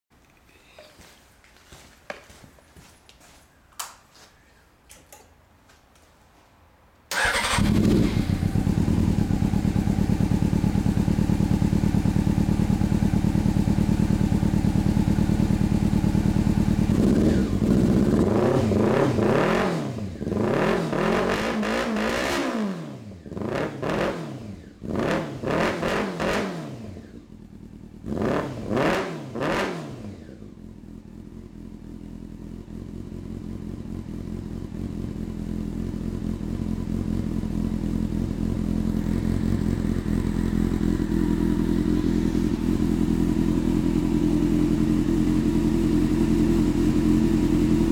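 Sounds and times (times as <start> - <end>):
motorcycle engine idling and revving: 7.1 - 47.9.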